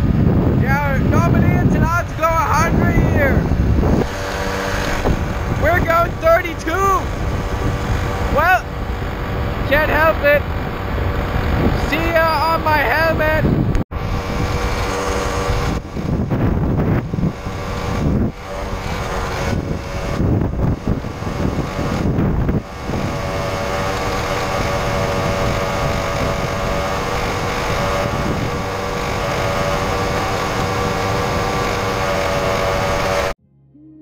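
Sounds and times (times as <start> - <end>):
moped engine running: 0.0 - 33.4
wind buffeting microphone: 0.0 - 33.4.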